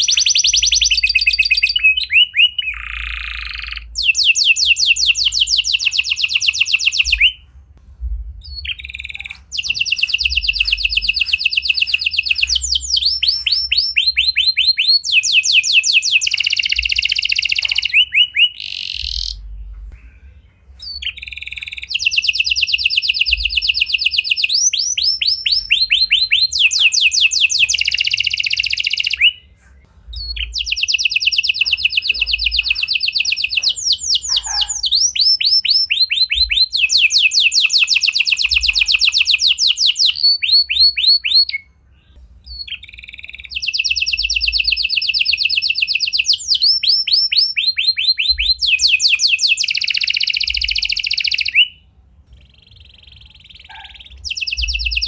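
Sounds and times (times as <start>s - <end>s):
canary singing fast trills: 0.0s - 7.5s, 8.4s - 55.0s.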